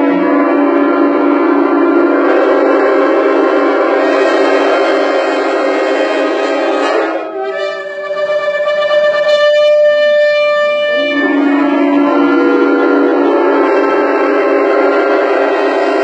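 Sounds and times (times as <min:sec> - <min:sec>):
shofar blasts: 0:00.0 - 0:16.0.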